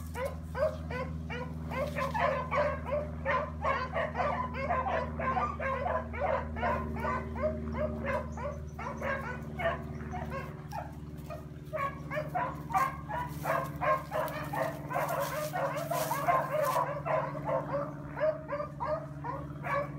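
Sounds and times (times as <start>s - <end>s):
hounds baying: 0.0s - 19.9s.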